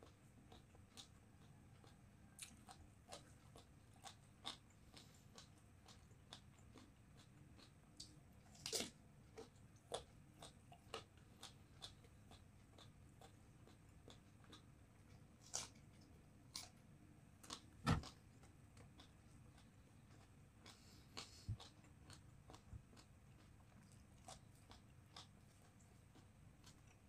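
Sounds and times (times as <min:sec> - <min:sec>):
chewing raw vegetables: 0:00.0 - 0:27.0.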